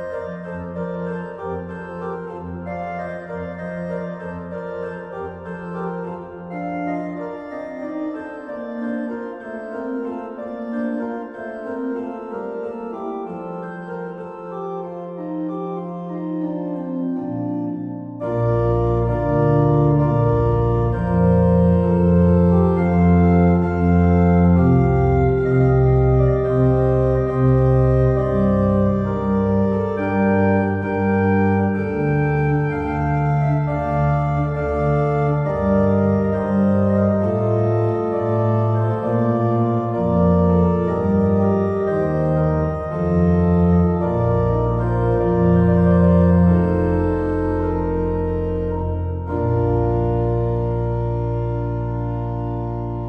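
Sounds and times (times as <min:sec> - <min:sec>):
slow organ chords: 0:00.0 - 0:53.0.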